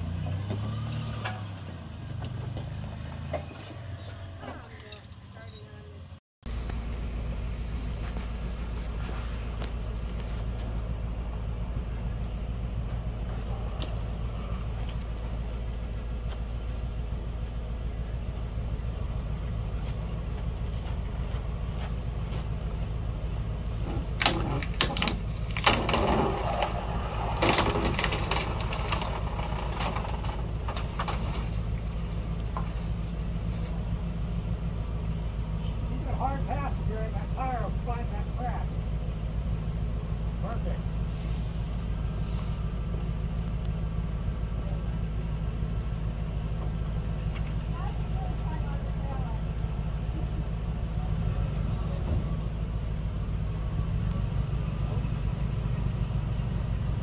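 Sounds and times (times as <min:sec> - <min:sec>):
tires and underbody grinding on rock: 0:00.0 - 0:05.6, 0:06.5 - 0:57.0
engine running low: 0:00.0 - 0:57.0.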